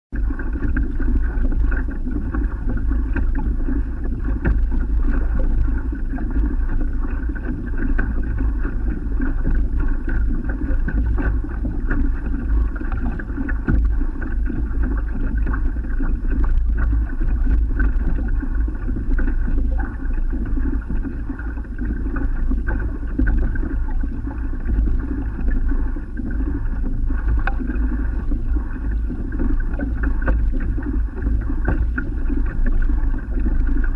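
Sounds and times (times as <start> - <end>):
water lapping against hull: 0.1 - 33.9
wind noise on microphone: 0.1 - 33.9.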